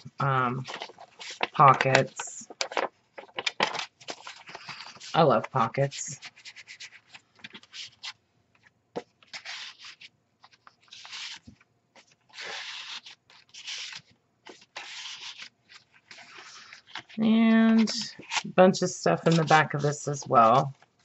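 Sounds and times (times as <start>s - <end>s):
paper cards rustling: 0.5s - 21.0s.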